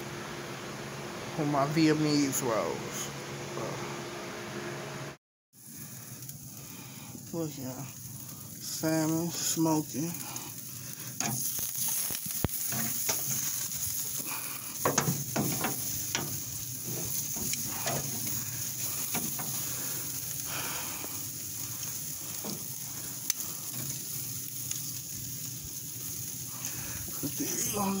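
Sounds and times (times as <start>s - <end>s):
crackles and pops: 5.6s - 28.0s
food sizzling on a grill: 5.6s - 28.0s.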